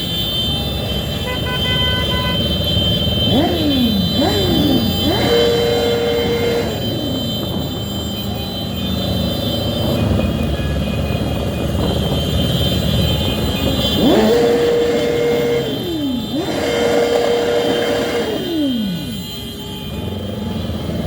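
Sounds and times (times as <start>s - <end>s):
passing traffic rumble: 0.0s - 21.0s
motorcycle engine revving: 2.1s - 21.0s.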